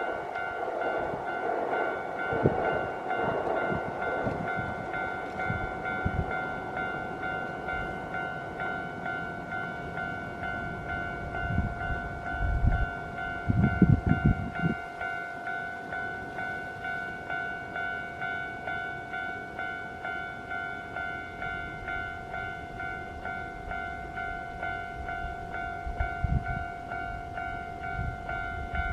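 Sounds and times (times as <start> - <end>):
train rumbling past: 0.0 - 28.9.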